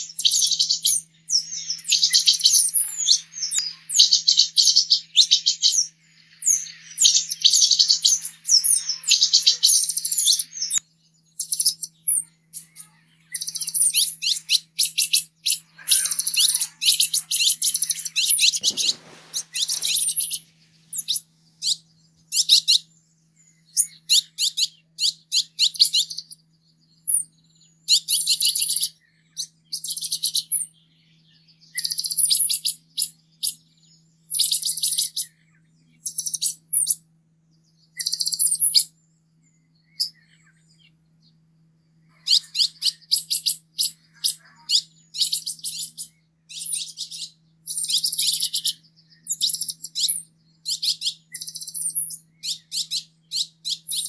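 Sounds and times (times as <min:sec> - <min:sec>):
bird chirping high-pitched: 0:00.0 - 0:22.9, 0:23.7 - 0:30.8, 0:31.6 - 0:33.6, 0:34.3 - 0:35.3, 0:35.9 - 0:37.0, 0:38.0 - 0:38.9, 0:39.8 - 0:41.4, 0:42.1 - 0:54.0.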